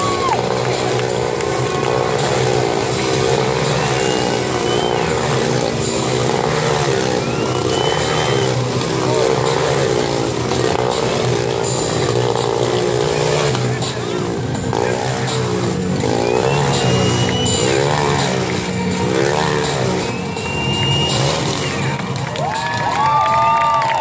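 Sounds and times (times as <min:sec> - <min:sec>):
dirt bike engines running hard: 0:00.0 - 0:24.0.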